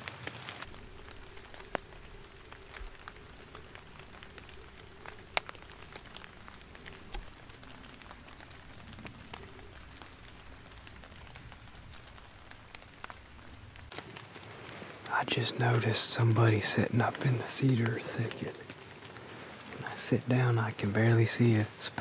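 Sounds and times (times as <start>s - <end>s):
drops tapping on leaves: 0.0s - 22.0s
faint steady hum: 0.3s - 22.0s.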